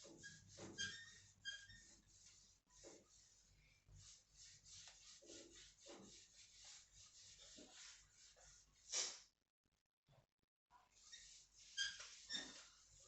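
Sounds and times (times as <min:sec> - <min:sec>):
faint rubbing strokes: 0:00.0 - 0:09.0, 0:10.9 - 0:13.0.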